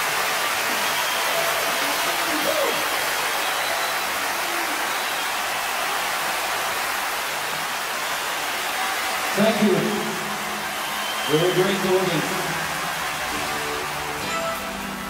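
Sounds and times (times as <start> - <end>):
crowd cheering and applauding: 0.0 - 15.0.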